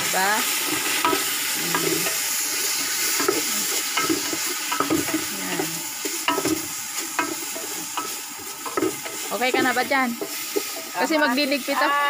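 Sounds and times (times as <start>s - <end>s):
stew simmering hiss: 0.0s - 12.0s.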